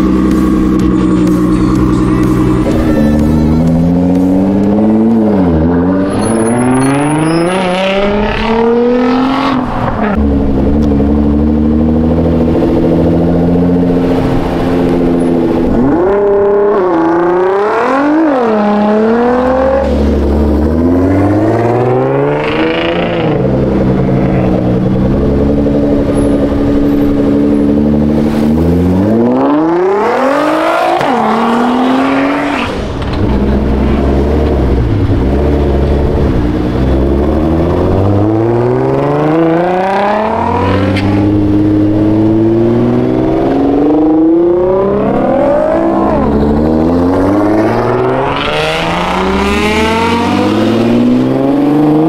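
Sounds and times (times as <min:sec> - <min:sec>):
car engines accelerating: 0:00.0 - 0:52.0.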